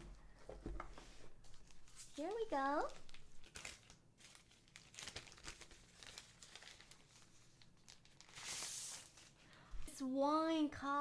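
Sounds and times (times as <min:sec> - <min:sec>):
packaging crinkling and rustling: 0:00.8 - 0:09.6.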